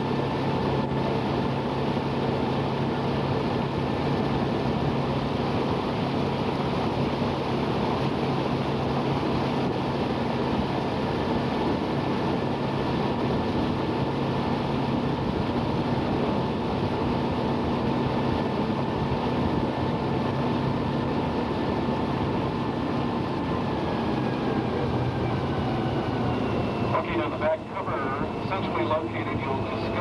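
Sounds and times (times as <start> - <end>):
boat engine drone: 0.0 - 30.0
faint high whine: 0.0 - 30.0.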